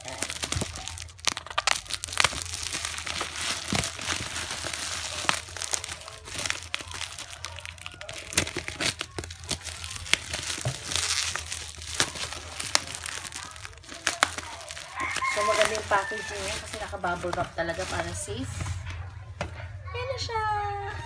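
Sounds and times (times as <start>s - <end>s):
plastic packaging crinkling: 0.0s - 18.8s.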